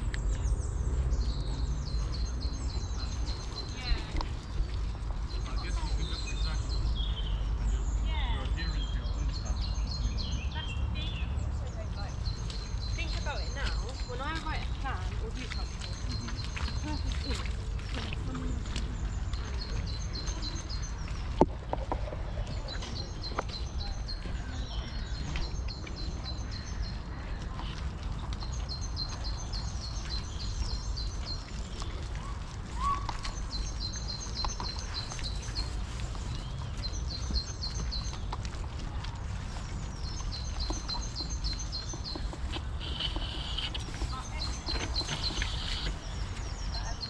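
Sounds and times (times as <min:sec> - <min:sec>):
songbird singing: 0:00.0 - 0:47.0.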